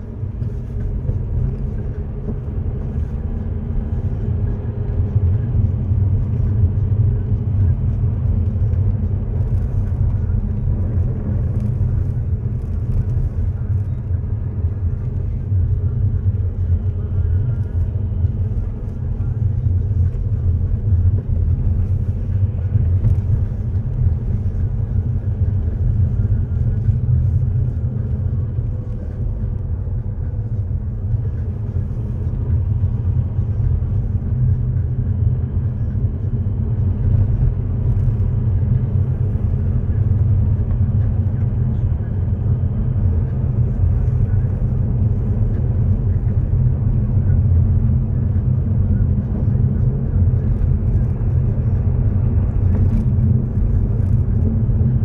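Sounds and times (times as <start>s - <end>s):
low rumble of tyres and engine: 0.0s - 55.0s.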